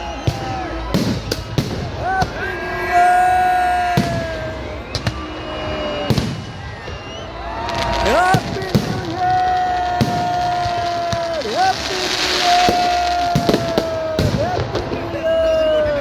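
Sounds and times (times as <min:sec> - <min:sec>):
crowd shouting: 0:00.0 - 0:16.0
fireworks bangs and crackles: 0:00.0 - 0:16.0.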